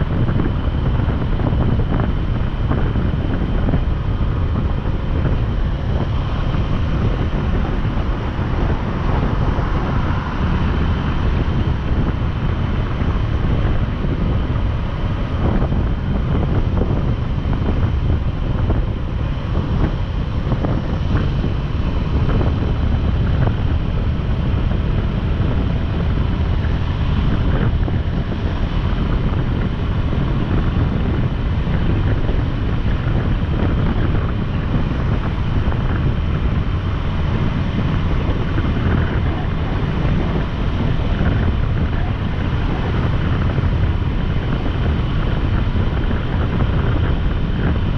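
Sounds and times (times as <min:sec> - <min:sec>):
road noise: 0:00.0 - 0:47.9
wind buffeting microphone: 0:00.0 - 0:47.9.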